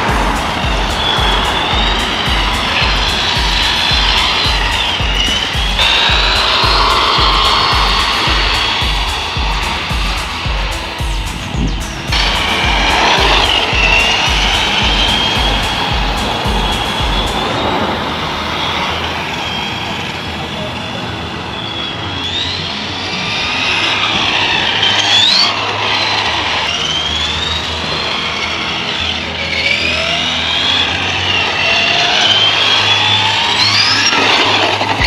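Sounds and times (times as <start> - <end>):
electric motor whine: 0.0 - 35.0.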